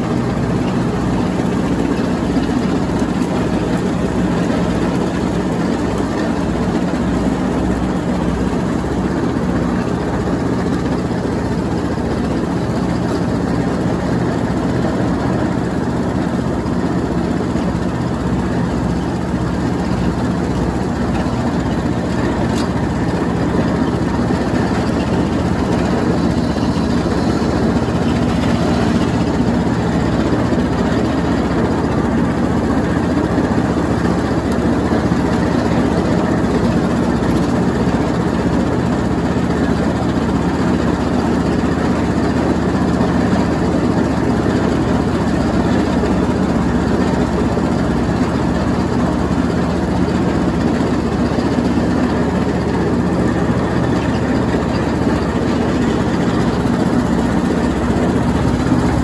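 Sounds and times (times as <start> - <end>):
riding lawnmower engine running: 0.0 - 59.0.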